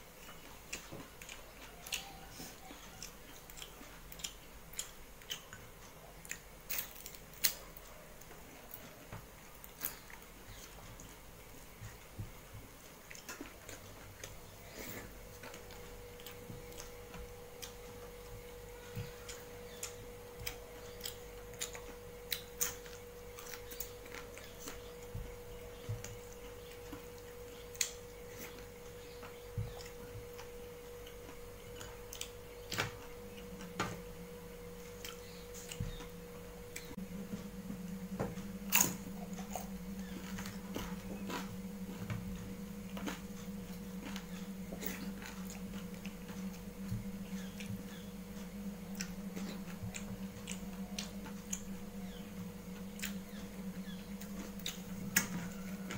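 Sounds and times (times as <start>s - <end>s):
faint steady hum: 0.0s - 55.9s
lower hum: 0.0s - 55.9s
chewing: 0.2s - 33.9s, 34.8s - 37.4s, 38.5s - 55.9s.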